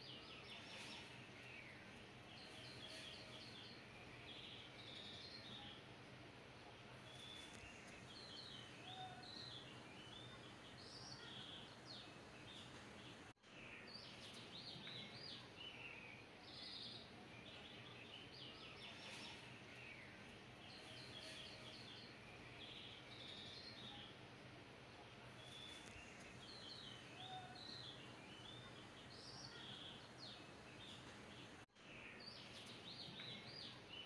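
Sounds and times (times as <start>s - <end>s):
small birds chirping: 0.0s - 34.0s
steady background hiss: 0.0s - 34.0s.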